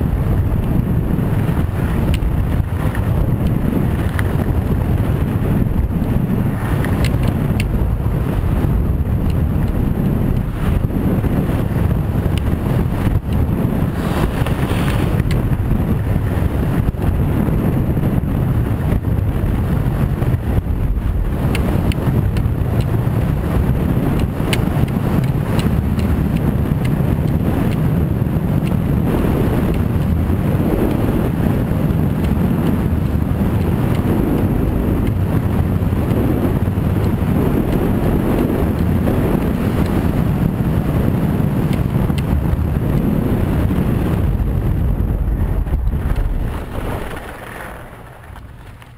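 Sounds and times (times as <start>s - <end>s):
skis scraping over snow: 0.0s - 48.9s
wind buffeting microphone: 0.0s - 48.9s.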